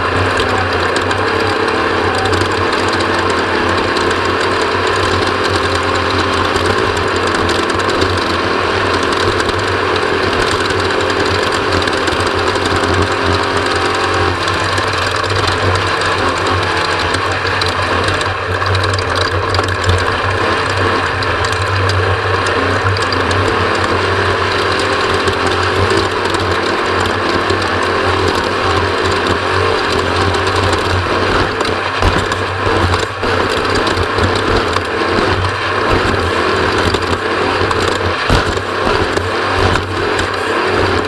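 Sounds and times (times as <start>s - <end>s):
bike drivetrain clicking and rattling: 0.0s - 41.0s.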